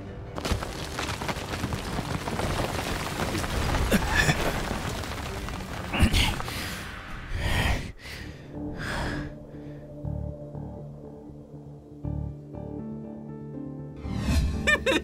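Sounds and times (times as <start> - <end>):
background music: 0.0 - 1.6, 3.9 - 15.0.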